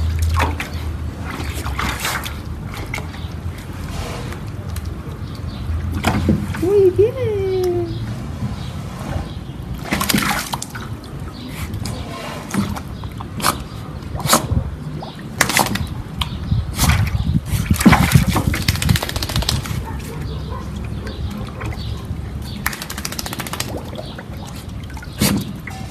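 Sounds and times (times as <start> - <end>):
water splashing in a metal tub: 0.0 - 6.9, 9.4 - 25.9.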